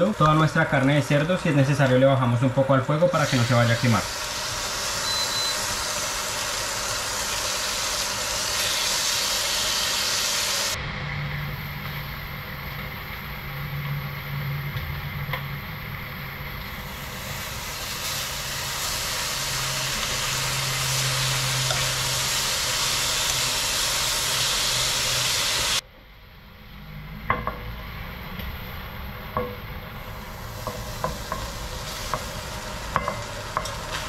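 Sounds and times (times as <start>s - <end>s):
meat sizzling in hot oil: 2.9s - 25.8s, 27.4s - 34.0s.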